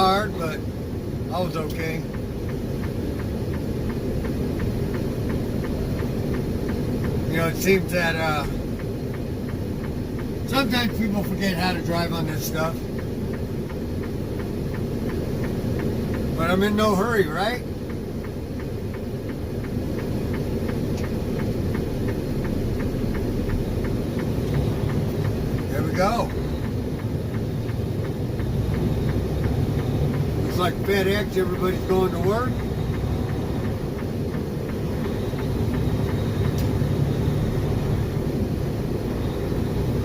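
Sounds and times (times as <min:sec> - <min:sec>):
light even ticking: 0:00.0 - 0:40.0
truck engine and tyres rumbling: 0:00.0 - 0:40.0.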